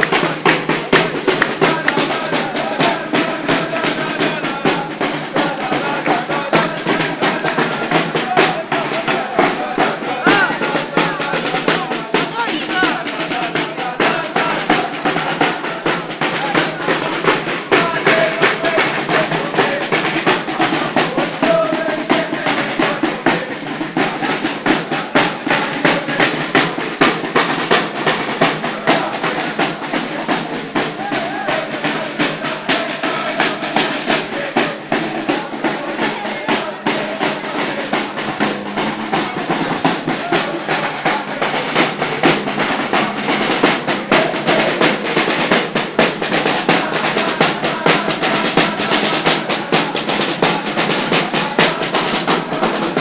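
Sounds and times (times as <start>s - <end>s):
crowd chanting: 0.0s - 53.0s
marching snare drums: 0.0s - 53.0s.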